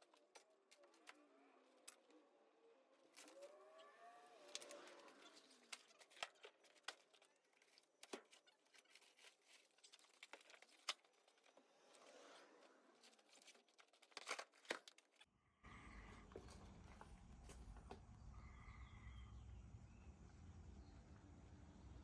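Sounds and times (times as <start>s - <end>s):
faint rustling and crinkling: 0.0s - 18.2s.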